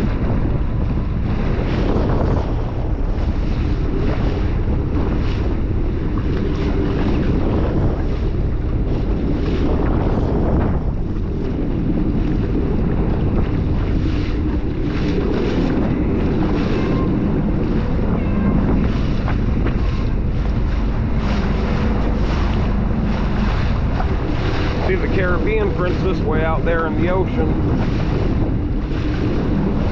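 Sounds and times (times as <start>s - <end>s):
personal watercraft engine: 0.0s - 29.9s
water splashing against hull: 0.0s - 29.9s
wind buffeting microphone: 0.0s - 29.9s.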